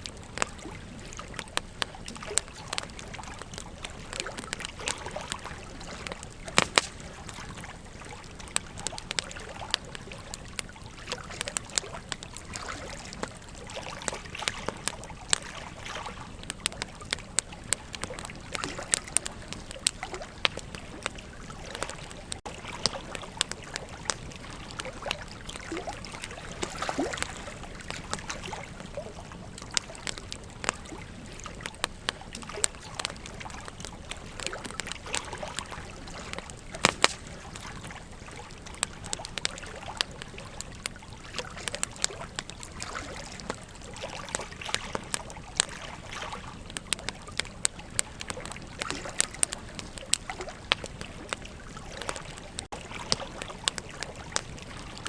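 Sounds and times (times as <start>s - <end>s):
river water flowing: 0.0s - 47.5s, 48.1s - 55.0s
campfire crackling and popping: 0.0s - 55.0s.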